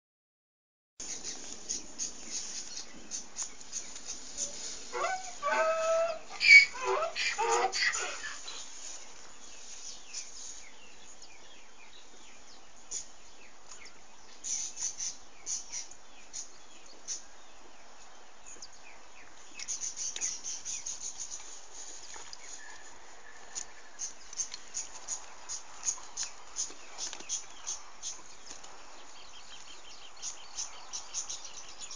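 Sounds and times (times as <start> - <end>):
birds chirping: 1.0 - 31.9
steady outdoor hiss: 1.0 - 31.9.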